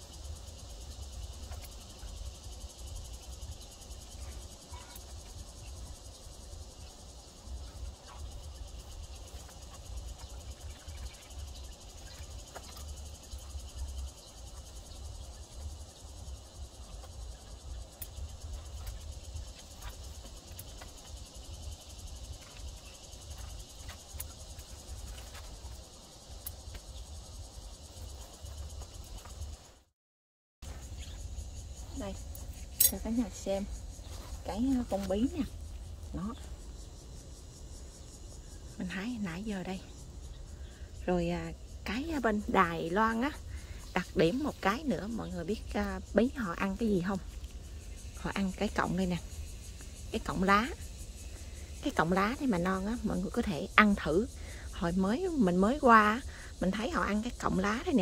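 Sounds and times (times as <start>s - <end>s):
insects chirring: 0.0s - 29.9s, 30.6s - 58.0s.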